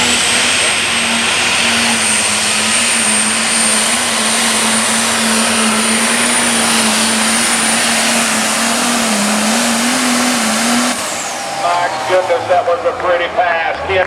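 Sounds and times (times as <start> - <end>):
diesel tractor engine drone: 0.0 - 14.0
high turbo whine: 0.0 - 14.0.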